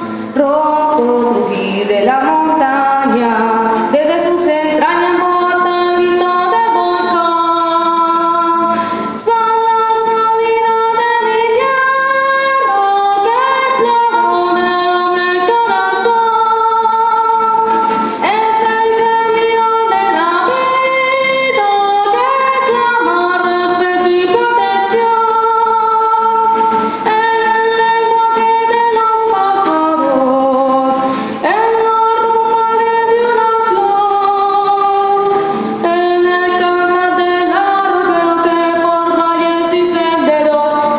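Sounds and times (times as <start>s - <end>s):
instrumental backing: 0.0s - 40.9s
woman singing: 0.0s - 40.9s.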